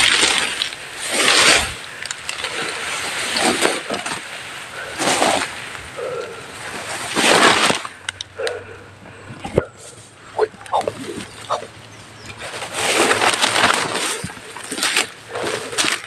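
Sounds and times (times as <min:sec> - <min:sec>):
undergrowth rustling and swishing: 0:00.0 - 0:16.0.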